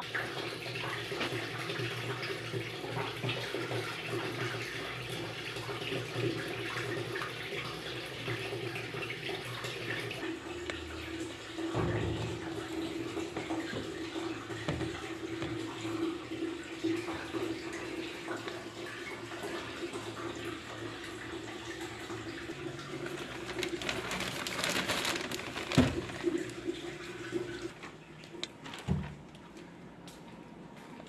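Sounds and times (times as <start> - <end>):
water churning and sloshing: 0.0 - 30.1
washing machine motor hum: 0.0 - 31.0.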